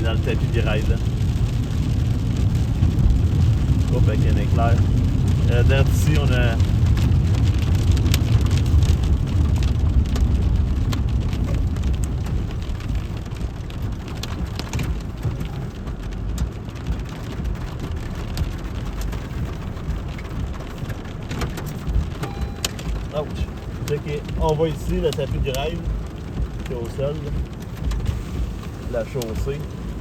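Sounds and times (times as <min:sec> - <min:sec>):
heavy rain and hail: 0:00.0 - 0:30.0
strong low rumble: 0:00.0 - 0:30.0.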